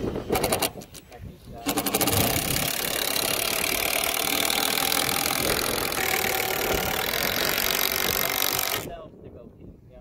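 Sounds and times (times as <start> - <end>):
impact driver rattling into wood: 0.3 - 1.0, 1.6 - 8.9.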